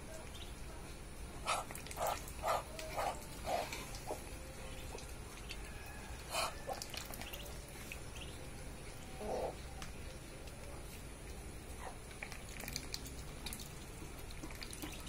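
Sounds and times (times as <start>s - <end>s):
ducklings dabbling at water: 0.2s - 0.6s, 1.4s - 15.0s.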